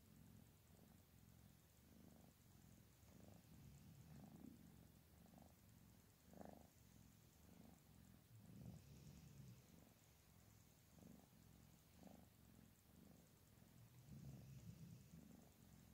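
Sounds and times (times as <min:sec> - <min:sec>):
kitten purring: 0:00.0 - 0:15.9.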